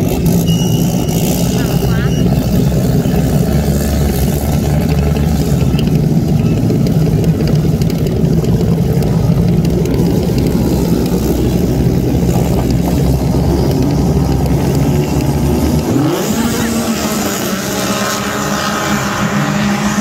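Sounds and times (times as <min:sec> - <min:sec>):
jet pumps churning water: 0:00.0 - 0:20.0
jet ski engines droning: 0:00.0 - 0:20.0.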